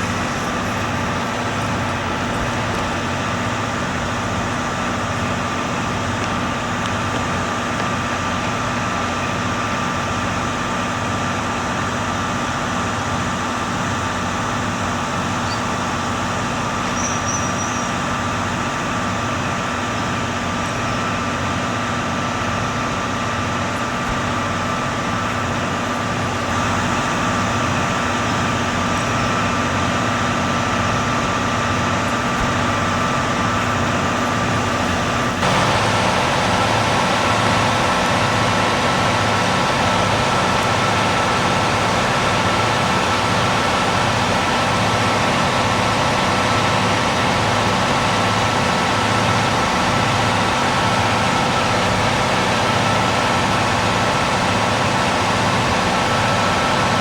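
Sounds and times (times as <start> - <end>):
diesel railcar engines idling: 0.0 - 57.0.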